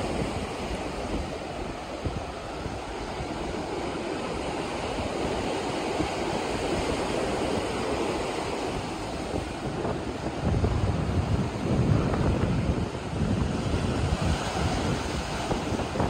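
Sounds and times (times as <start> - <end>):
waves breaking on shore: 0.0 - 16.0.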